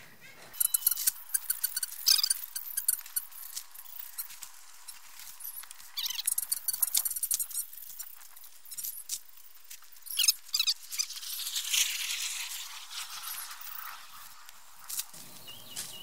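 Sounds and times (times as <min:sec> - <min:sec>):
dry soil and plants rustling: 0:00.0 - 0:16.0
high squeaky chirps: 0:00.2 - 0:14.4.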